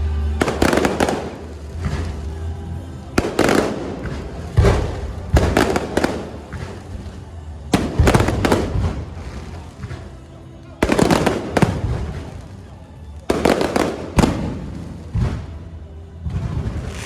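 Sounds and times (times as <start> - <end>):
fireworks banging: 0.4 - 17.0.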